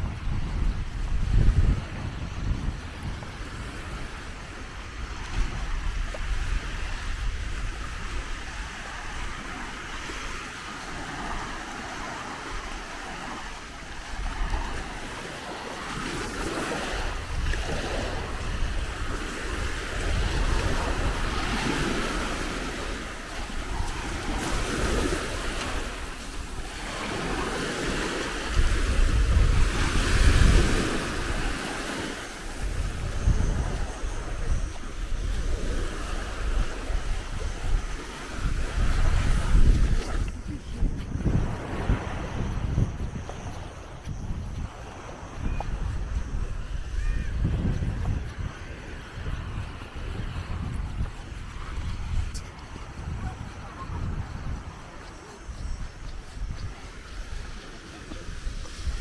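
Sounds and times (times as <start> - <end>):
sea waves breaking on beach: 0.0 - 59.0
wind rumbling on microphone: 0.0 - 59.0.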